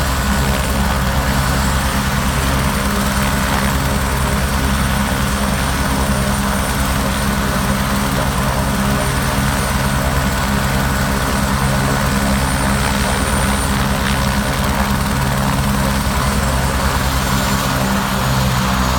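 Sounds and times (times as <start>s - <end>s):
helicopter engine and rotor drone: 0.0s - 18.9s.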